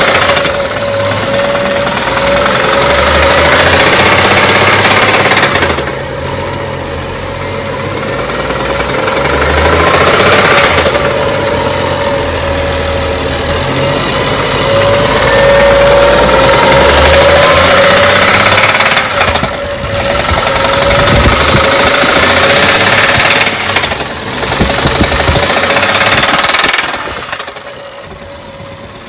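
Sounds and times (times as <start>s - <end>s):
diesel engine idling: 0.0s - 29.0s
engine knocking: 0.0s - 29.0s.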